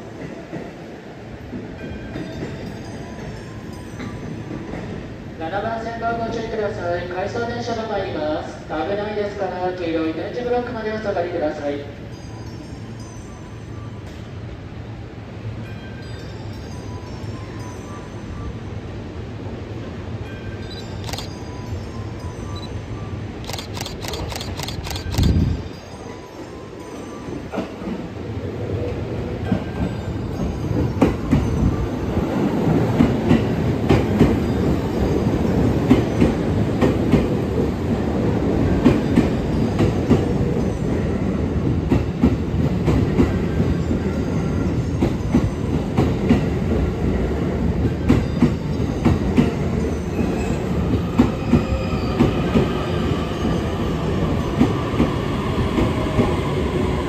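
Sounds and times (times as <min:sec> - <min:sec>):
electric train rumbling past: 0:00.0 - 0:57.0.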